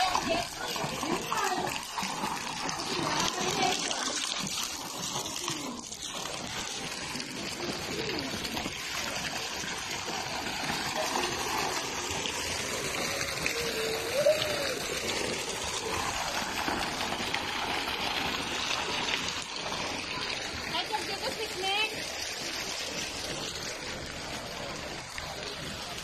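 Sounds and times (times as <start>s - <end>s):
fountain water pouring into pool: 0.0s - 26.0s.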